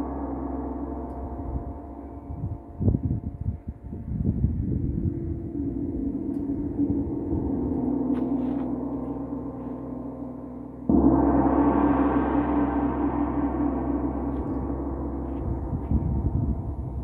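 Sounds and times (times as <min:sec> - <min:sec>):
gong struck with mallet: 0:00.0 - 0:03.4, 0:04.4 - 0:17.0.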